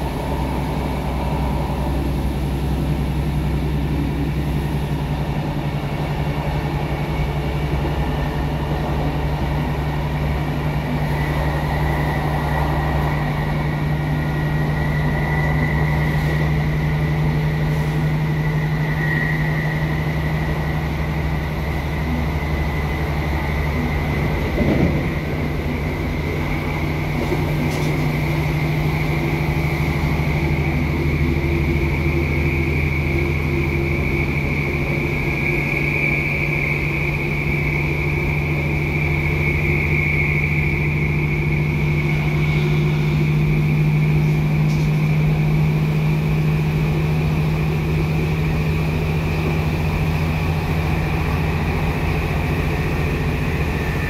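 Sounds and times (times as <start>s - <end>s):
train diesel engine drone: 0.0s - 54.0s.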